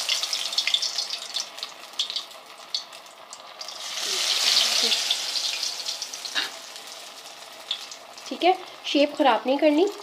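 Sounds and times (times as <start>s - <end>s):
samosas sizzling in a pan: 0.0s - 10.0s.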